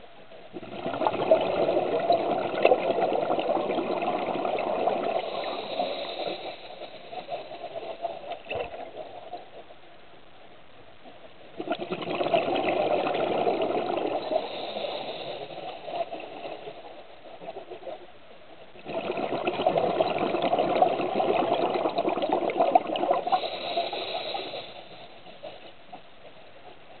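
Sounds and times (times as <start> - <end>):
exhaled bubbles underwater: 0.5 - 9.6, 11.5 - 25.7.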